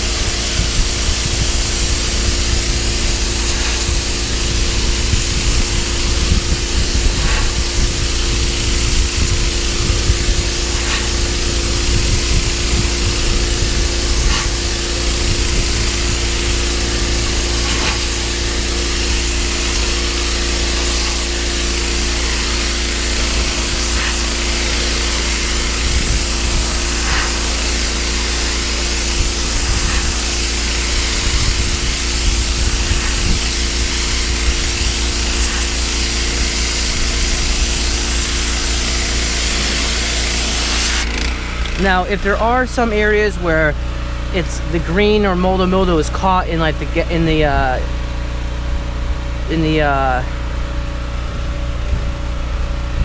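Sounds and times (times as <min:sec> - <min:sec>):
pressure washer motor humming: 0:00.0 - 0:53.0
pressure washer spraying wood: 0:00.0 - 0:53.0.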